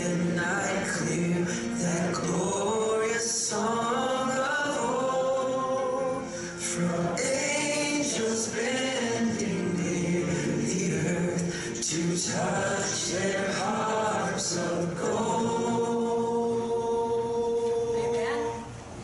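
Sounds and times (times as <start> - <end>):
voices singing slow song: 0.0 - 18.9.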